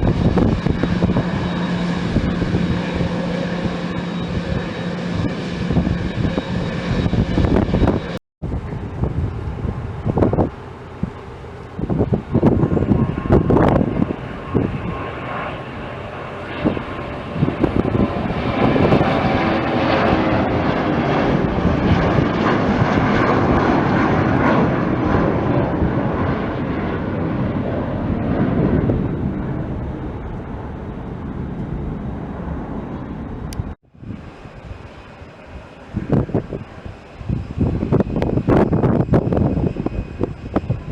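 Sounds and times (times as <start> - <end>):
airliner engines roaring: 0.0 - 40.9.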